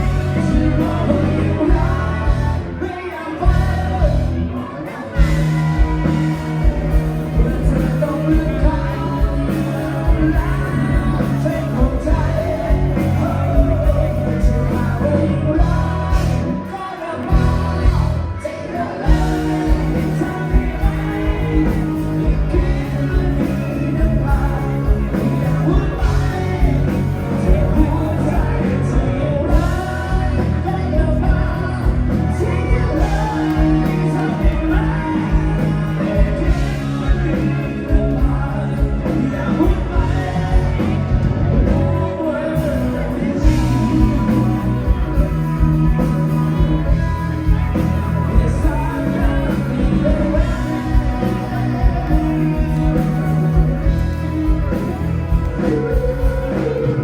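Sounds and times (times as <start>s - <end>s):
live rock band: 0.0s - 57.0s
person singing: 0.0s - 57.0s
steady drum beat: 5.2s - 16.6s, 17.2s - 18.3s, 19.1s - 42.0s, 43.4s - 57.0s.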